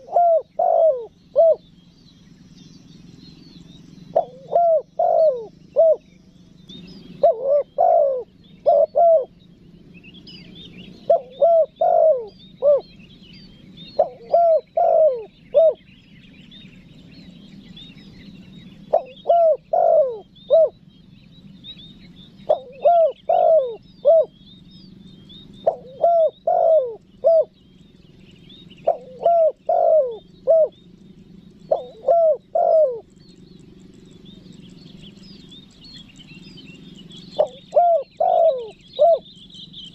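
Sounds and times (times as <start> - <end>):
dove cooing: 0.0 - 1.8, 4.0 - 15.9, 16.6 - 20.9, 22.3 - 24.4, 25.0 - 35.6, 36.7 - 39.5
small birds twittering: 0.0 - 39.9.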